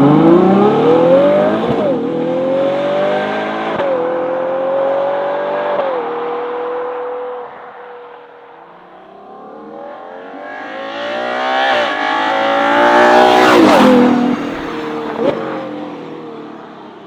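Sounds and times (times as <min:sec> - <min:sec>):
car engine accelerating: 0:00.0 - 0:07.6, 0:08.6 - 0:16.7.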